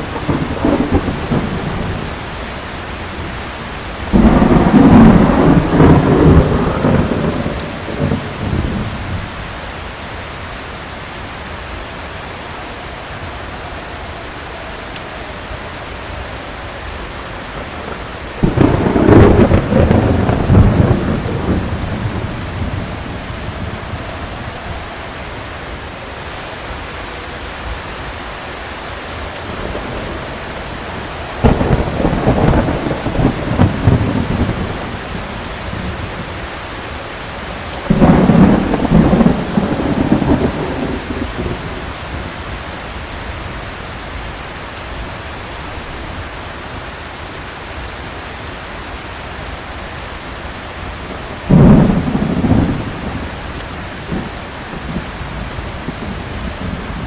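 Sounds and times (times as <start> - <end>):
thunder rumbling: 0.0 - 48.2, 48.8 - 57.0
heavy rain falling: 0.0 - 57.0.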